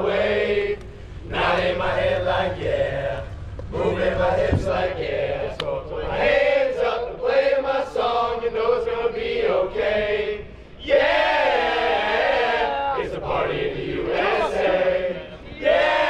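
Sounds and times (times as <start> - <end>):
loud long group cry: 0.0 - 16.0
men chanting in unison: 0.0 - 16.0.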